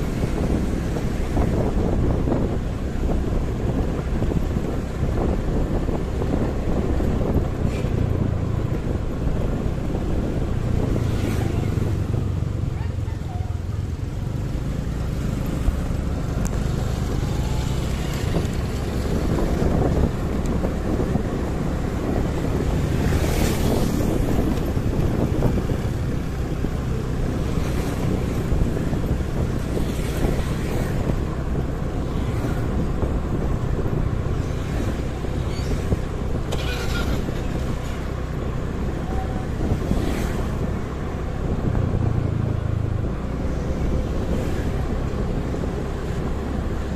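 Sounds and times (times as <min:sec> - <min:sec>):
motorcycle engine rumble: 0:00.0 - 0:46.9
vehicles passing by: 0:00.0 - 0:46.9
wind on microphone: 0:00.0 - 0:46.9.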